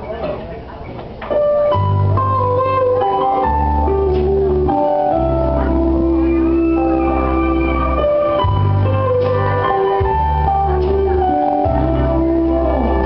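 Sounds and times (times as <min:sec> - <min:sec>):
acoustic guitar: 0:01.2 - 0:13.0
held bass notes and chords: 0:01.3 - 0:13.0.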